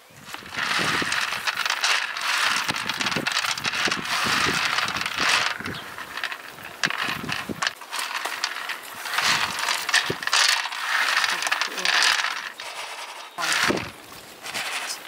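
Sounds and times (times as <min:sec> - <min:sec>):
nuts rattling on metal tray: 0:00.1 - 0:15.0.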